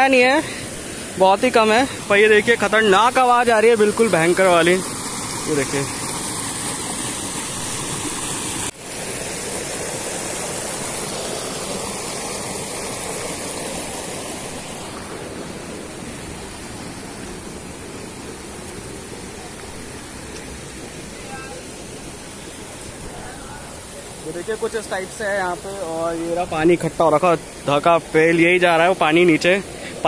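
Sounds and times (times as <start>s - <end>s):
stream water rushing over rocks: 0.0s - 30.0s.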